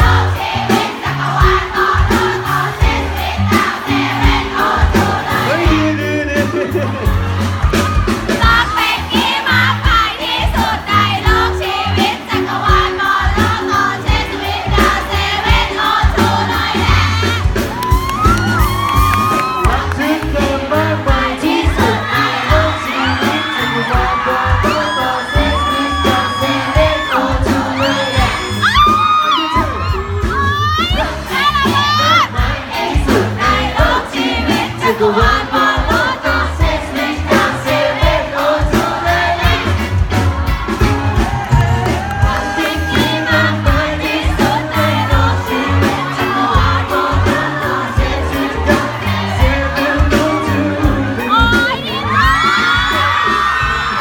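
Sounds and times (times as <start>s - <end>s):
crowd cheering and screaming: 0.0s - 54.0s
live pop music with singing: 0.0s - 54.0s.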